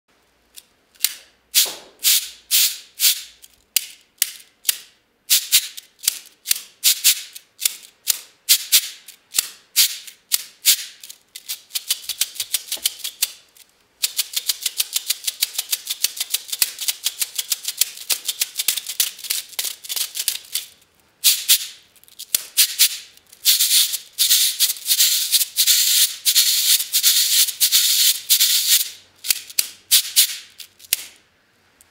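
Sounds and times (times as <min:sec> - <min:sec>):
cabasa bead rattling: 0:01.6 - 0:31.2.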